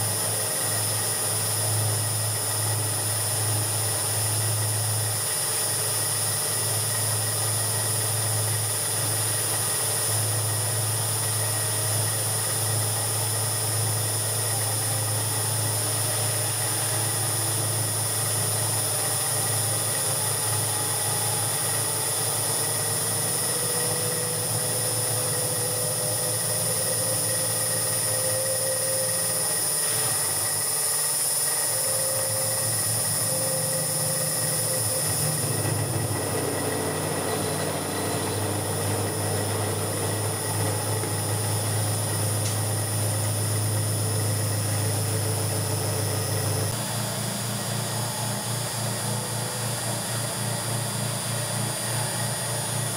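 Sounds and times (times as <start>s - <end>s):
milling machine cutting metal: 0.0s - 52.9s.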